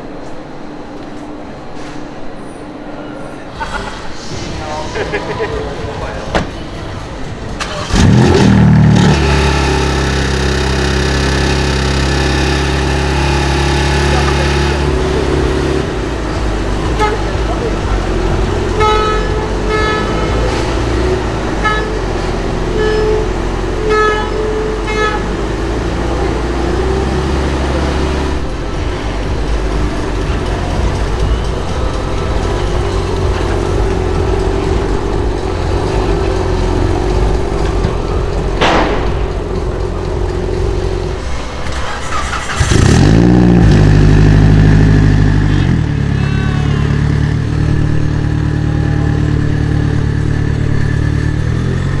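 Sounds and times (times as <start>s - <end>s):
car engines idling: 0.0s - 52.0s
engine revving sharply: 3.5s - 52.0s.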